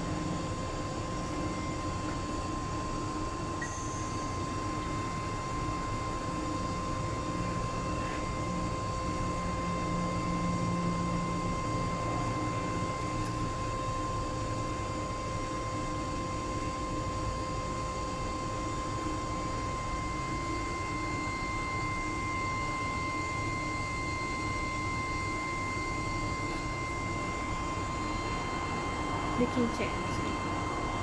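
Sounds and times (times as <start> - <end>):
high-pitched whine: 0.0 - 31.0
mechanical hum and hiss: 0.0 - 31.0.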